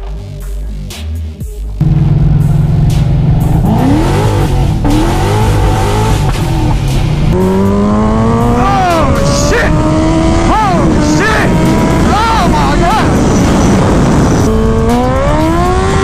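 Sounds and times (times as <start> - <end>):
car engine accelerating: 1.8 - 16.0
motorcycle engine revving: 1.8 - 16.0.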